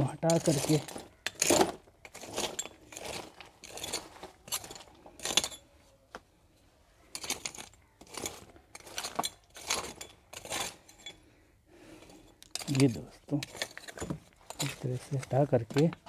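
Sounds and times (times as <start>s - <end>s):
metal spade scraping stony ground: 0.0s - 5.7s, 7.1s - 11.3s, 12.0s - 16.0s
stones clinking against blade: 0.3s - 5.7s, 7.1s - 11.2s, 12.2s - 16.0s.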